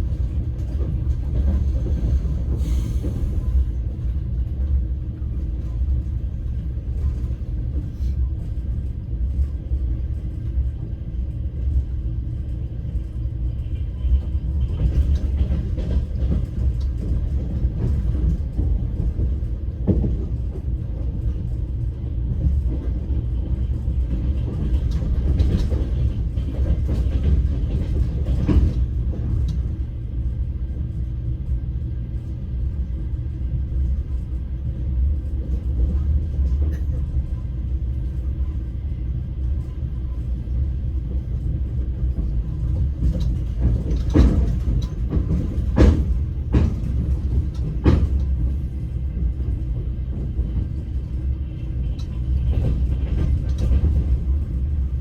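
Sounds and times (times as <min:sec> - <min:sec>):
train carriage rumble: 0:00.0 - 0:55.0.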